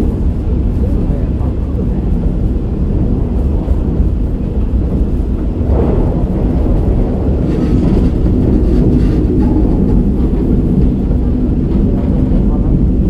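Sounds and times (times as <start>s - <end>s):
railcar engine and wheels rumble: 0.0s - 13.0s.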